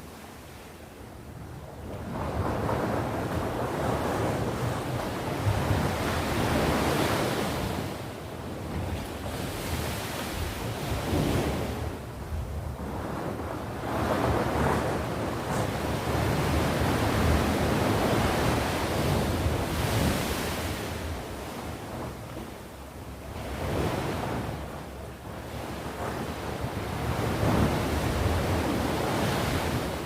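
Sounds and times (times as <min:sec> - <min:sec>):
sea surf washing ashore: 0:00.0 - 0:30.0
wind rumble on microphone: 0:00.0 - 0:30.0.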